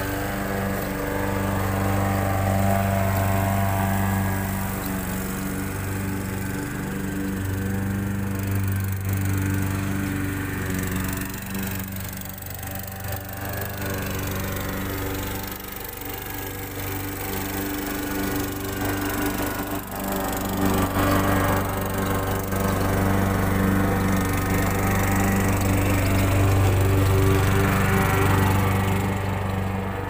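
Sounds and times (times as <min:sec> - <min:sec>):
lawn mower engine cutting grass: 0:00.0 - 0:30.0.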